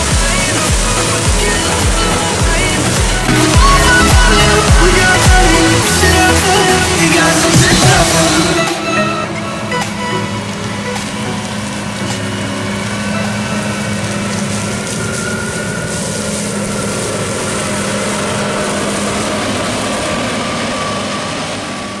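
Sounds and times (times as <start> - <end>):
combine harvester engine drone: 0.0 - 22.0
threshing machinery whirring: 0.0 - 22.0.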